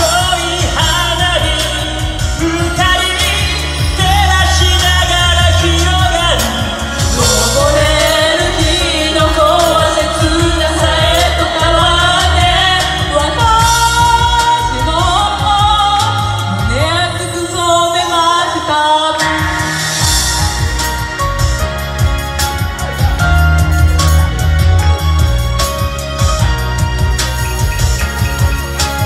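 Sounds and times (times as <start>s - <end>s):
pop vocals singing: 0.0s - 27.6s
backing track with bass line: 0.0s - 29.0s.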